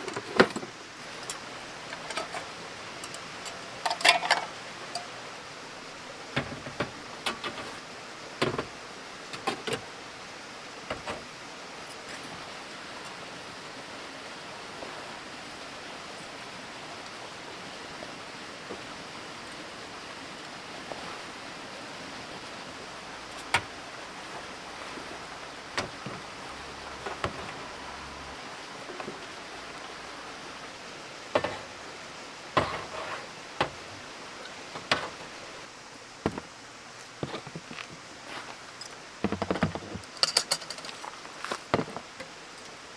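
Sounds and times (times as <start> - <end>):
steady hiss: 0.0 - 42.9.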